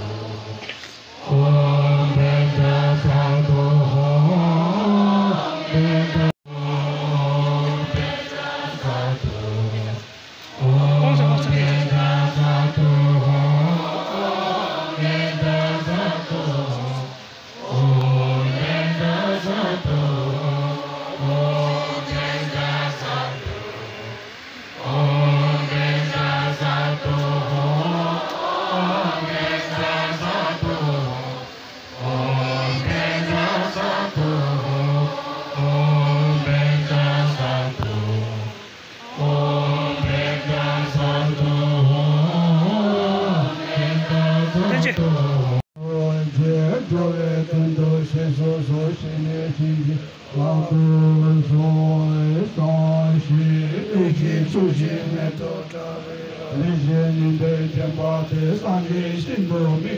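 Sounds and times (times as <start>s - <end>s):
monks chanting in low voices: 0.0s - 59.9s.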